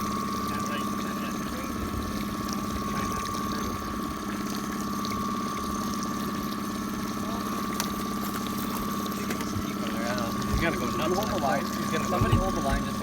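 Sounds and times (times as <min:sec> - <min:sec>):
small motor humming: 0:00.0 - 0:13.0.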